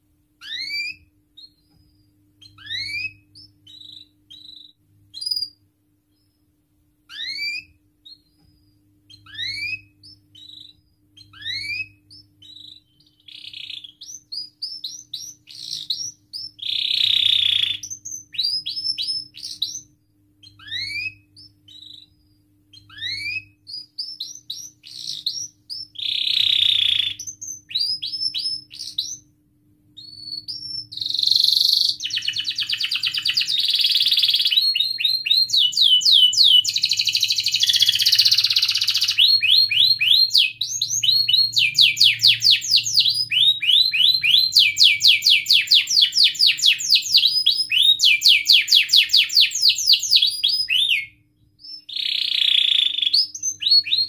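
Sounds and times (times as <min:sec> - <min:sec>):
canary singing: 0:00.4 - 0:06.5, 0:07.1 - 0:29.3, 0:30.0 - 0:54.0.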